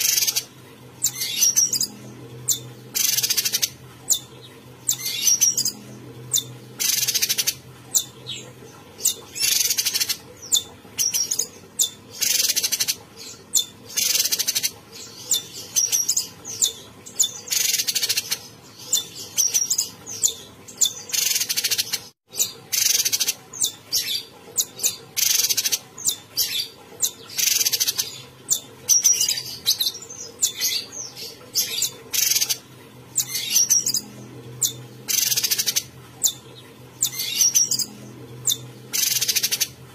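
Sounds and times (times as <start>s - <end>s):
songbird harsh chattering song: 0.0s - 32.6s, 33.2s - 39.7s.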